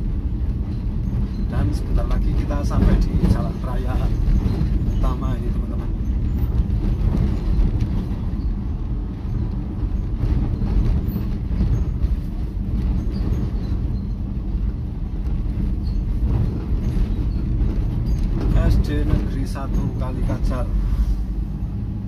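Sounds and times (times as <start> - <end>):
vehicle rumble on rough road: 0.0 - 22.0.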